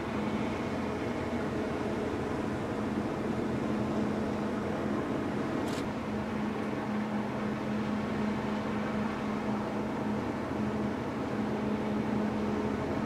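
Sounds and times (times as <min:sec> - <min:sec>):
ship machinery hum: 0:00.0 - 0:13.0.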